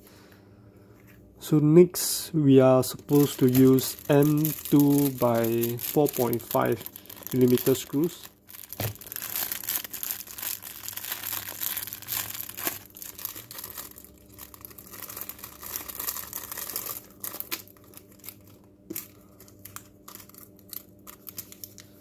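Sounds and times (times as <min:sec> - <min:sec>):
plastic packaging crinkling: 0:02.9 - 0:22.0.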